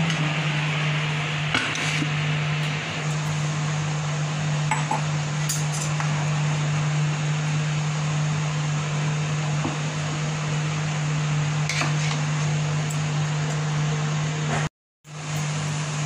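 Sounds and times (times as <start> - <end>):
mechanical hum and hiss: 0.0 - 16.0.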